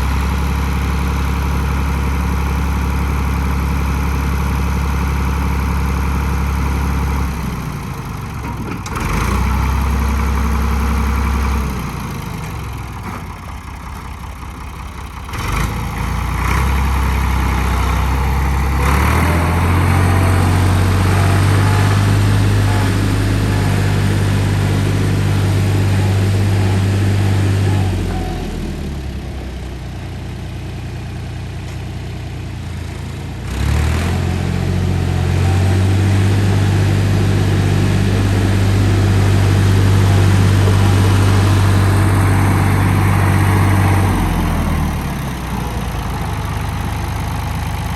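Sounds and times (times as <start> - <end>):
backhoe engine running: 0.0 - 47.9.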